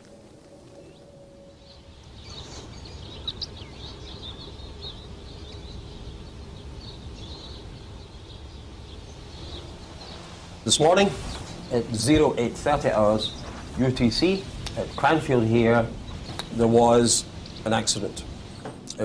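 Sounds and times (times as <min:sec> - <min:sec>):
low outdoor rumble: 0:00.0 - 0:19.0
small birds chirping: 0:00.0 - 0:19.0.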